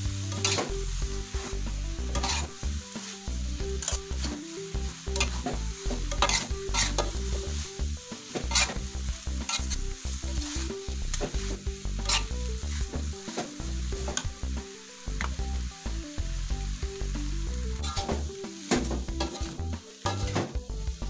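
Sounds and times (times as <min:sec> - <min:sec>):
metal spatula scraping a wok: 0:00.0 - 0:14.4, 0:17.7 - 0:20.6
noodles sizzling in a wok: 0:00.0 - 0:21.0.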